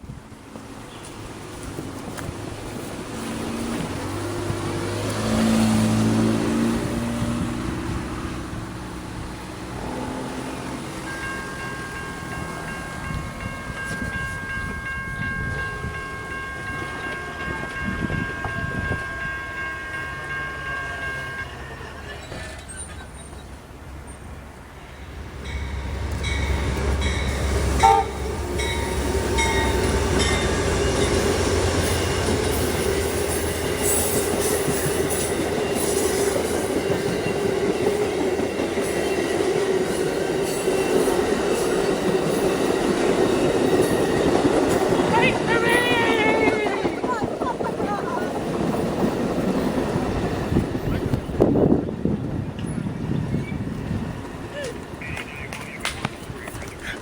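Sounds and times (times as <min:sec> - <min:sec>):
diesel locomotive engine: 0:00.0 - 0:57.0
train cars rumbling by: 0:00.0 - 0:57.0.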